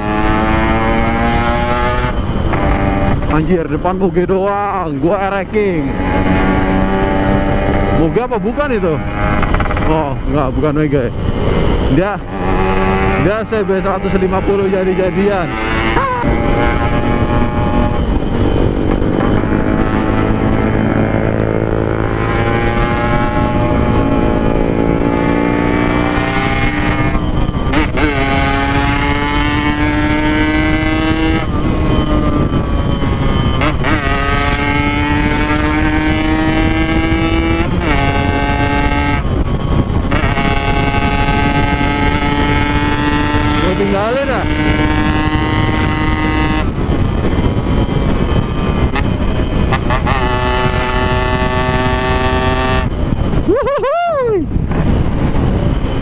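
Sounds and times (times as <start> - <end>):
two-stroke motorcycle accelerating: 0.0 - 56.0.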